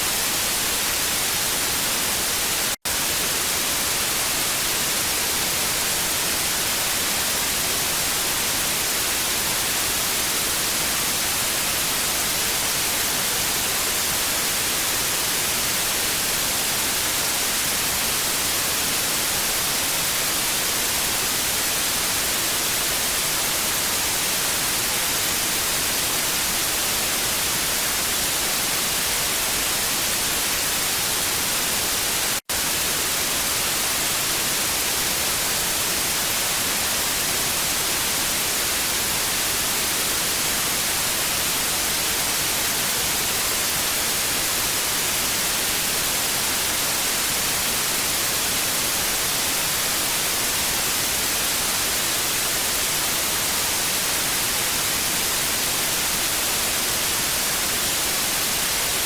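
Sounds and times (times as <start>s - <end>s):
tv static hiss: 0.0s - 59.0s.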